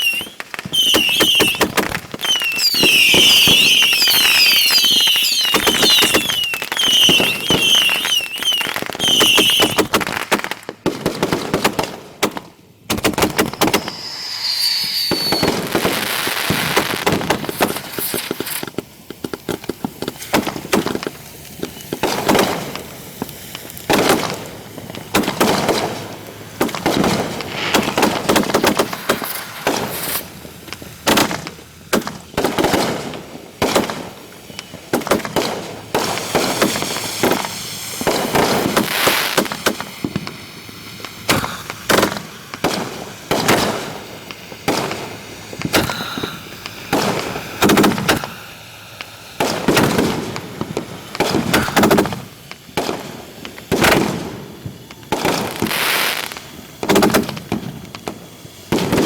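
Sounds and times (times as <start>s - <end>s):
fireworks bangs: 0.0s - 59.0s
fireworks crackling: 0.0s - 59.0s.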